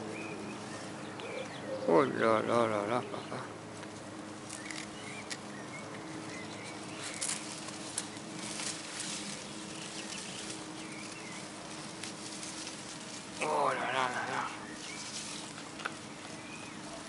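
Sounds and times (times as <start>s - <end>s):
leaves rustling: 0.0s - 17.0s.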